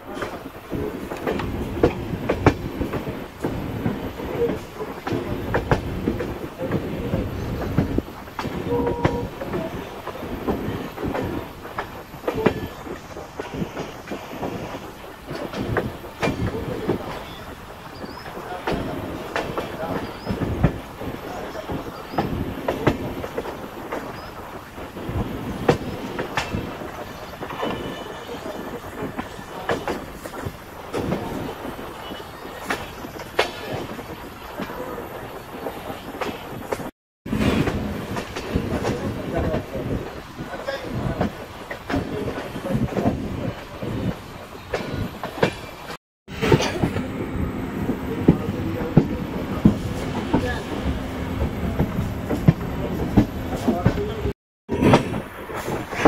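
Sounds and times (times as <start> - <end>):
train rumble on rails: 0.0 - 56.0
wheels clattering over rail joints: 0.0 - 56.0.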